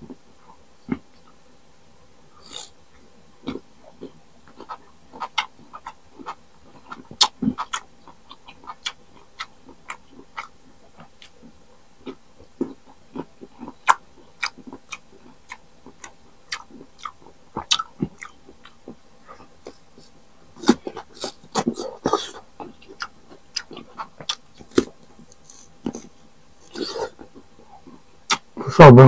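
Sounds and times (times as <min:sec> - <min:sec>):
crunching and chewing mango: 0:02.4 - 0:28.6.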